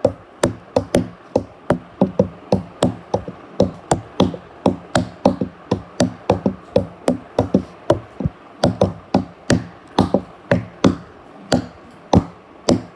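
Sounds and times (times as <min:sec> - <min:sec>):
sharp banging knocks: 0:00.0 - 0:12.9.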